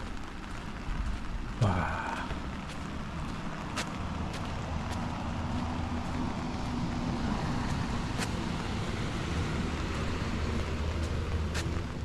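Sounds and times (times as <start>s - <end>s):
low engine hum: 0.2s - 12.0s.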